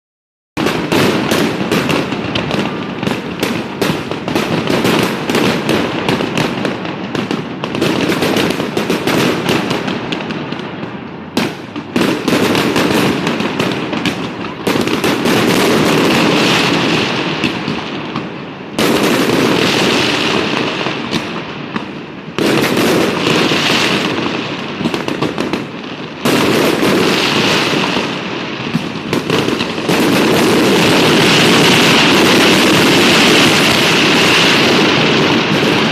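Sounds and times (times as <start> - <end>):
fireworks bangs and crackling: 0.6 - 35.9.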